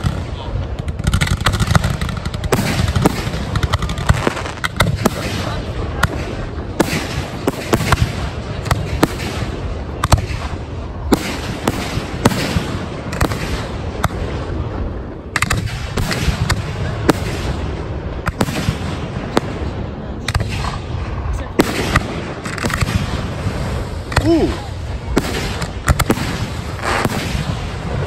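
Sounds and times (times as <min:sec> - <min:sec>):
firework bangs: 0:00.0 - 0:28.0
fireworks rumble: 0:00.0 - 0:28.0.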